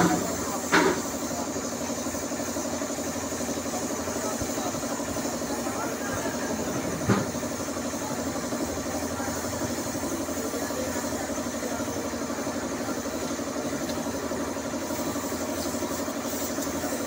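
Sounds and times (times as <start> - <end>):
spray gun hissing: 0.0 - 6.7, 7.4 - 17.0
air compressor pulsing: 0.0 - 17.0.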